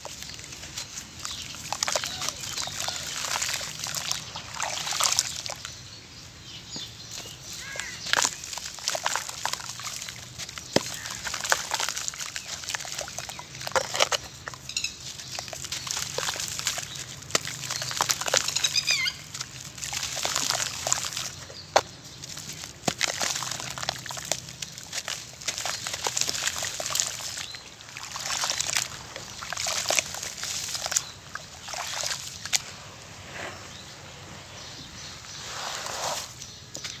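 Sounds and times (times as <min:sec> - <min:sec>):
hands sloshing wet mud in water: 0:00.0 - 0:05.8, 0:07.0 - 0:32.8.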